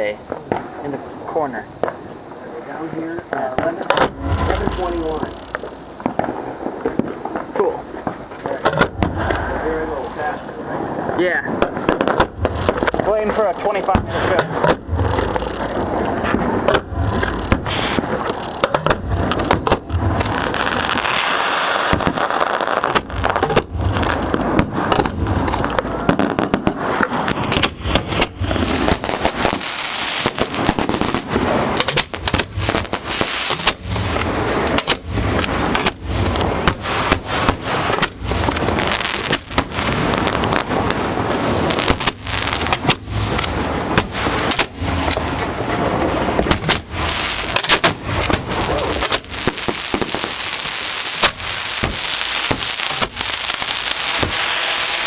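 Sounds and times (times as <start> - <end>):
fireworks barrage: 0.0 - 55.0
fireworks crackle: 0.0 - 55.0.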